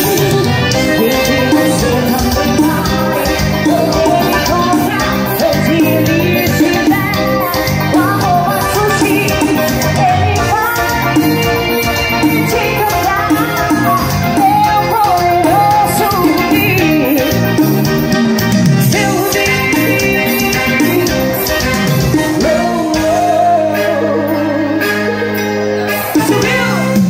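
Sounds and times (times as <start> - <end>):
woman singing into a microphone: 0.0 - 17.8, 18.8 - 25.5, 26.2 - 27.0
amplified backing music with beat: 0.0 - 27.0.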